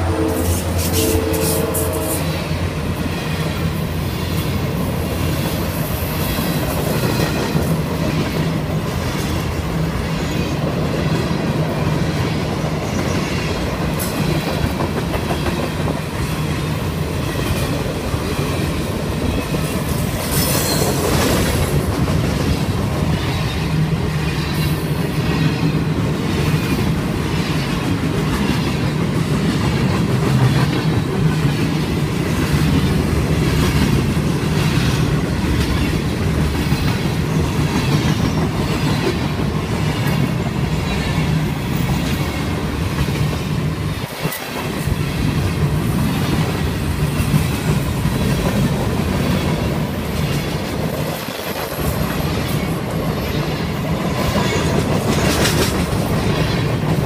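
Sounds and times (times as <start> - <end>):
freight train rumbling past: 0.0 - 57.0
wheels clickety-clack over rail joints: 0.5 - 57.0.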